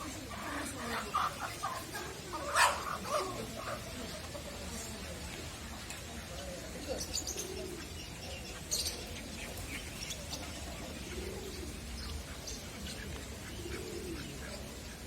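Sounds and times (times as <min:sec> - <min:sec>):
pigeons cooing: 0:00.0 - 0:05.1, 0:06.0 - 0:15.0
small birds chirping: 0:00.0 - 0:15.0.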